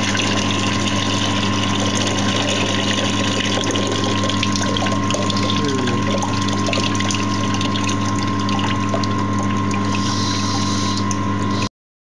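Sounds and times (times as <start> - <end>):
water draining and splashing: 0.0 - 11.6
steady machine hum: 0.0 - 11.7.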